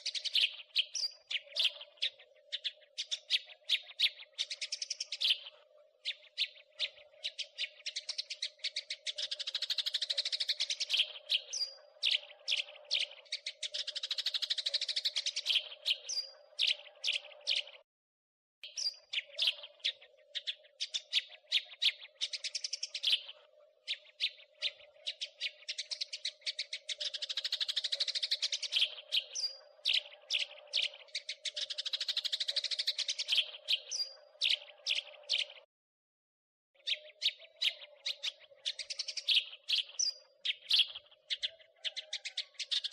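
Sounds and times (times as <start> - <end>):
sparrow chirping: 0.0 - 17.8, 18.6 - 35.7, 36.8 - 42.9.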